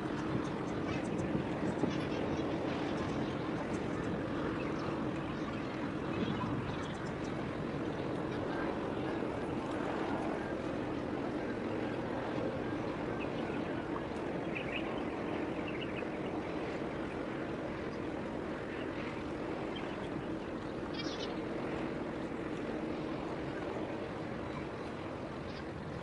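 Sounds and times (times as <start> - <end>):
cargo ship engine rumble: 0.0 - 26.0.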